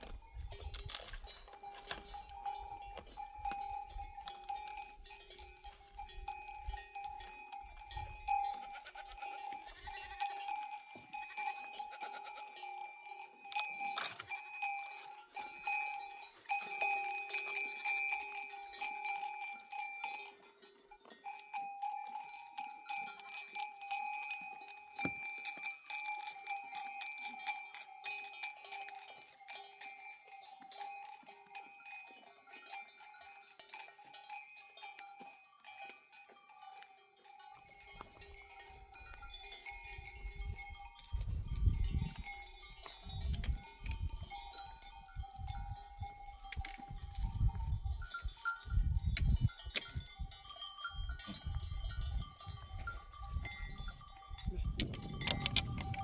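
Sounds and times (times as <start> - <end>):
sheep bells clanking: 0.0 - 56.0.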